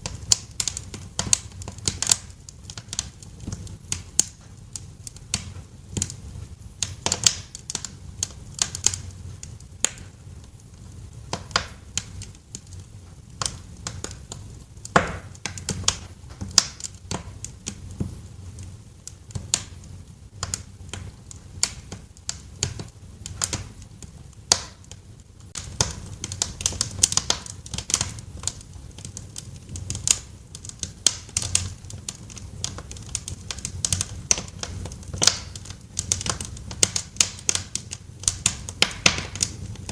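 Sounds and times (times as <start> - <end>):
low rumble of burning logs: 0.0 - 39.9
wood fire crackling in a fireplace: 0.0 - 39.9.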